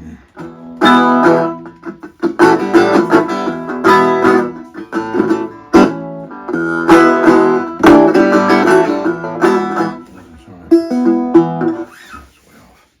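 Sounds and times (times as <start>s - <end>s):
resonator guitar chords ringing: 0.4s - 11.9s.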